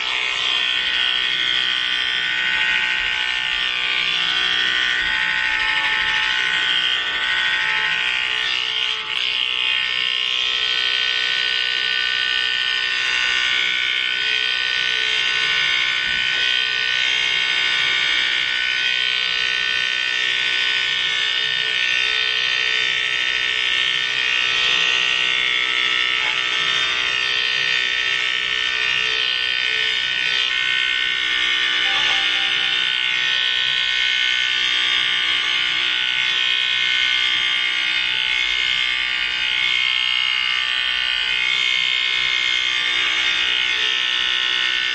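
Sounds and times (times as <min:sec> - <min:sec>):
electric hair clippers buzzing: 0:00.0 - 0:44.9.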